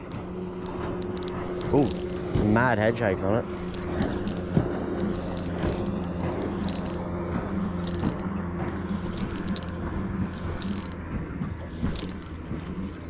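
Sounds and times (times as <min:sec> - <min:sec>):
fishing reel ratcheting clicks: 0:00.0 - 0:02.3, 0:03.4 - 0:11.0, 0:11.6 - 0:13.0
low steady hum: 0:00.0 - 0:13.0.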